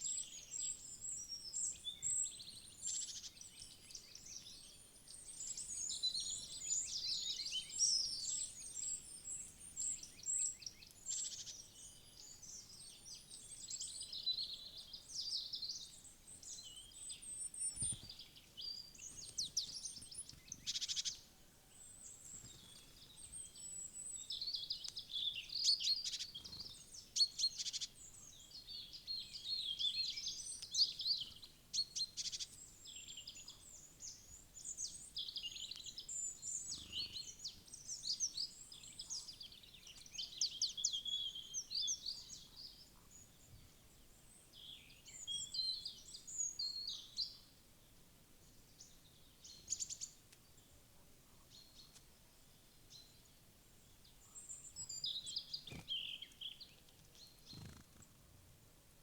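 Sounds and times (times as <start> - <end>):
chorus of small songbirds: 0.0 - 59.0.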